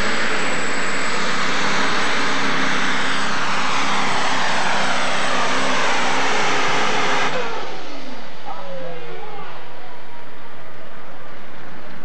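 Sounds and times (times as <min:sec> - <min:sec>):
tractor engine running flat out: 0:00.0 - 0:12.0.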